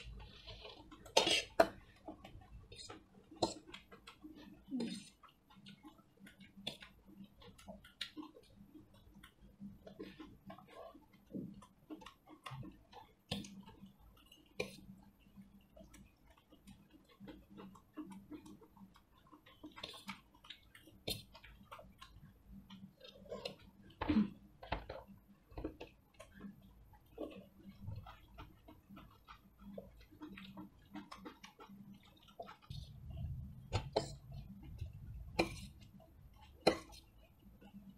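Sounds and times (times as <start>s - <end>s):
chewing with wet clicks: 0.0s - 37.9s.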